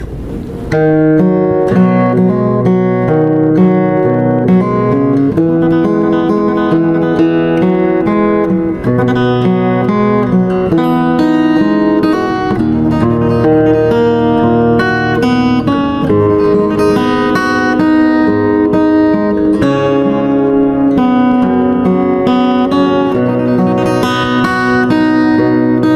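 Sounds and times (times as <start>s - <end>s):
acoustic guitar playing: 0.0s - 25.9s.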